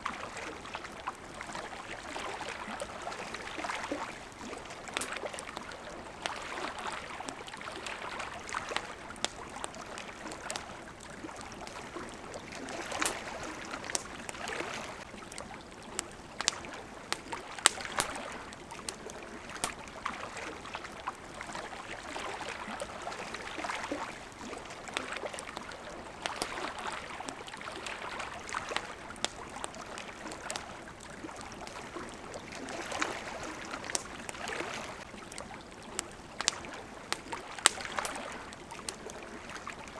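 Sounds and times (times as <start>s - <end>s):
campfire crackling and popping: 0.0s - 39.9s
small waves lapping: 0.0s - 39.9s.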